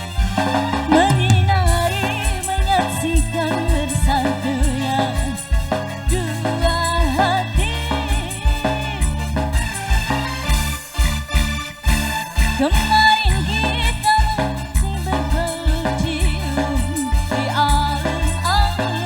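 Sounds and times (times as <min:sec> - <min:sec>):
bass line: 0:00.0 - 0:19.0
low drum beats: 0:00.0 - 0:19.0.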